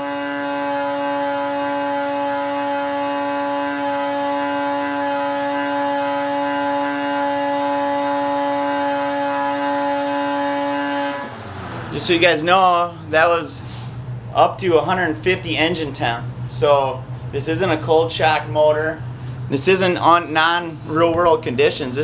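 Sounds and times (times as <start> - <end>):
snowmobile engine high drone: 0.0 - 22.0.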